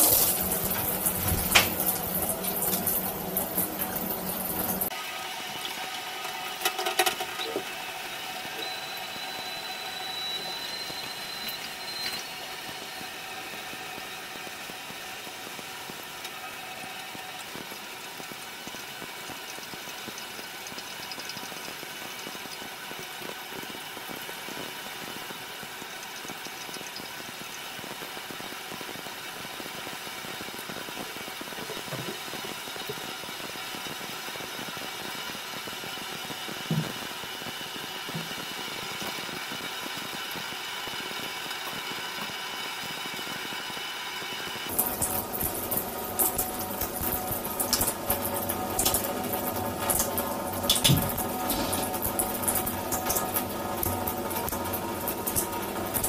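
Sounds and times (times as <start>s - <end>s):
water spraying onto bathtub: 0.0s - 43.8s, 44.7s - 56.0s.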